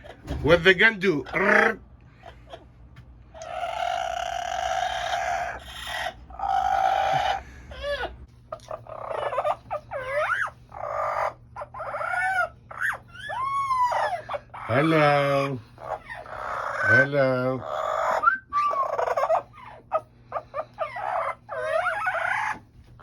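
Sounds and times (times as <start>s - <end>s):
parrot harsh calls: 3.3s - 23.0s.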